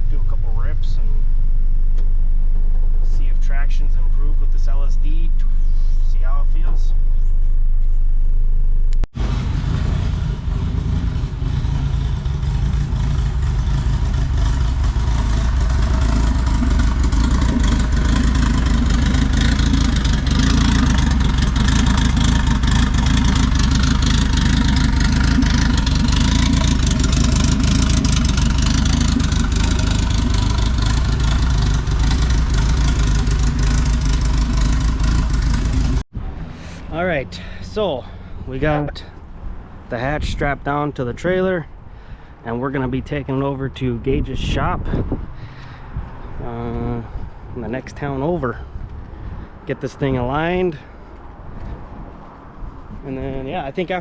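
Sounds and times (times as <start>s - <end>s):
car engine drone: 0.0s - 54.0s
road and wind noise: 0.0s - 54.0s.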